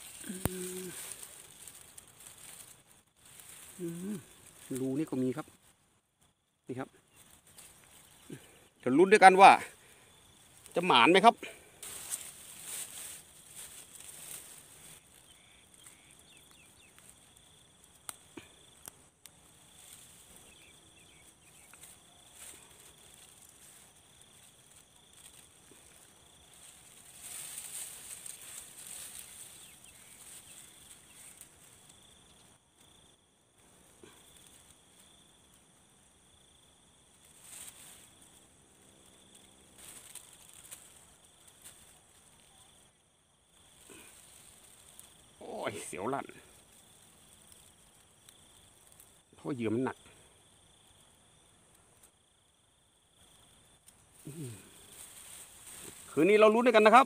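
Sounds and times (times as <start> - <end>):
faint insect drone: 0.0 - 57.0.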